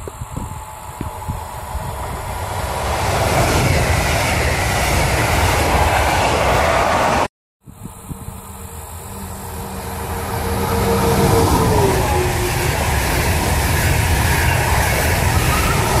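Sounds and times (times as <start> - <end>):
locomotive whine: 0.0 - 16.0
train passing at speed: 0.6 - 7.3, 8.2 - 16.0
train wheels rumbling: 0.6 - 7.3, 8.4 - 16.0.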